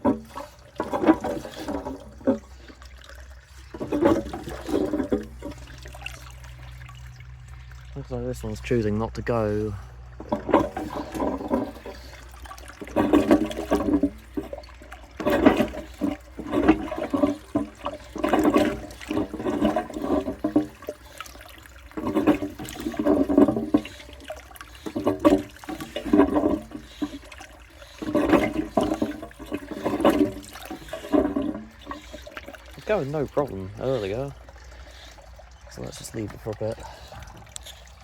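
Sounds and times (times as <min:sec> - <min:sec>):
toilet cistern water surging: 0:00.0 - 0:38.0.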